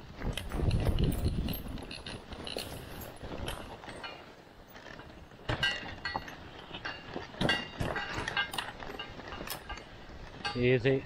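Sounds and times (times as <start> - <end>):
sled hardware rattling and clinking: 0.0 - 11.0.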